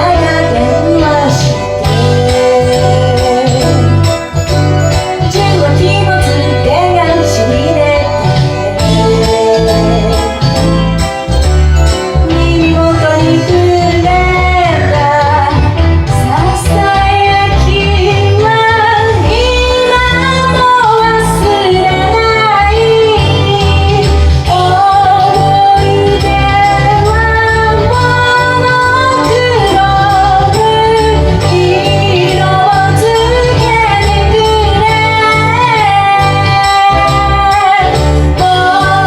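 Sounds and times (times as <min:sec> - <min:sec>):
karaoke backing track: 0:00.0 - 0:39.0
woman singing pop song: 0:00.0 - 0:39.0.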